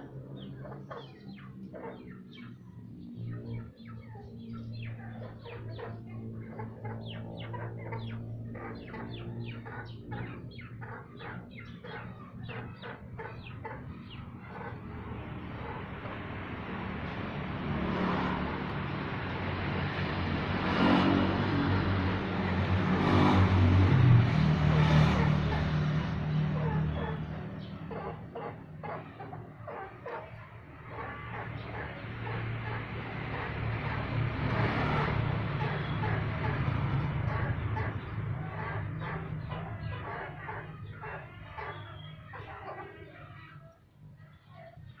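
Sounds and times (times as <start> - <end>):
vehicle approaching: 0.0 - 44.0
birds chirping: 0.0 - 45.0.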